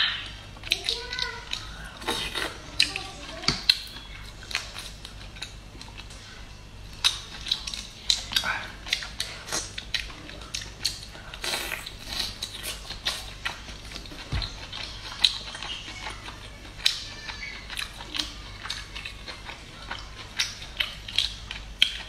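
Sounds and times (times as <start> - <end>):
chewing: 0.2 - 22.0.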